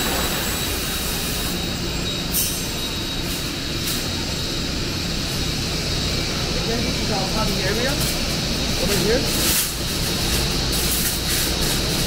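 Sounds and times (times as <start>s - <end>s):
factory machinery din: 0.0s - 11.6s
constant high whine: 0.0s - 12.0s.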